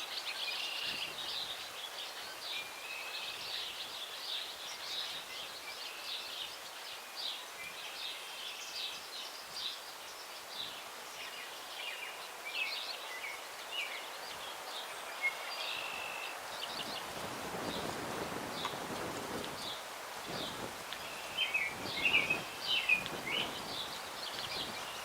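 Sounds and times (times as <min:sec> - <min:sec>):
breeze hissing in branches: 0:00.0 - 0:25.0
songbirds singing and chirping: 0:00.0 - 0:25.0.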